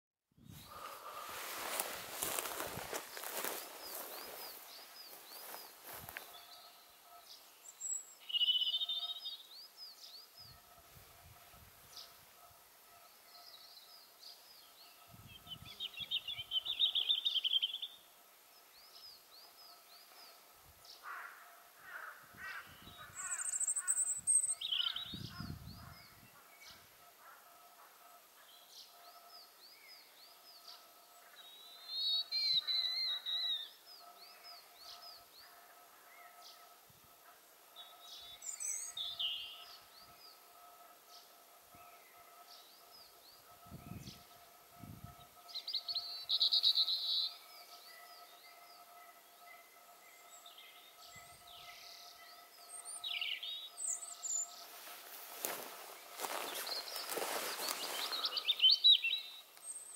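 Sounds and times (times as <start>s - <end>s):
small birds singing: 0.5s - 12.2s, 13.2s - 21.3s, 21.9s - 27.0s, 28.4s - 36.8s, 37.4s - 59.9s.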